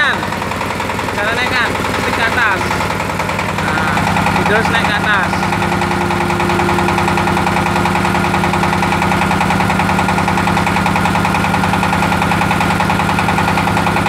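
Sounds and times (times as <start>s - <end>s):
diesel engine chugging under load: 0.0s - 14.0s.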